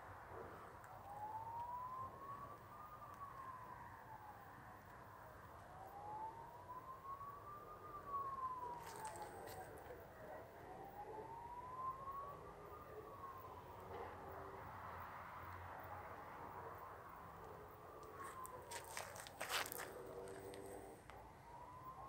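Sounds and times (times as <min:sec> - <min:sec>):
faint siren wailing: 0:00.0 - 0:22.0.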